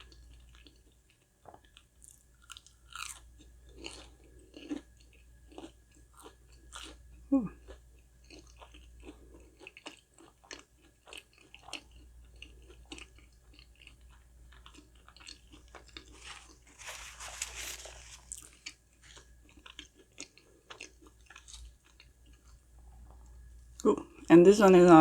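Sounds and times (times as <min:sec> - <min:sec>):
chewing crunches: 0:00.0 - 0:23.9.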